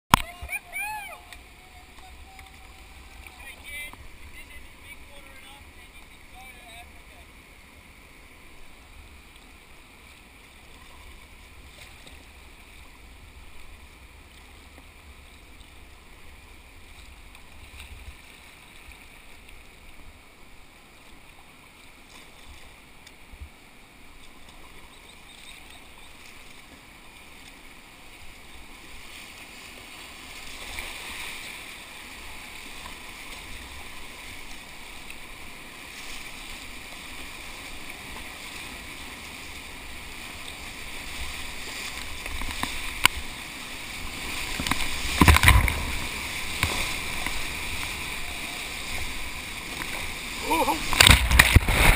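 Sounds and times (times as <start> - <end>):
river water rushing and splashing: 0.1 - 51.9.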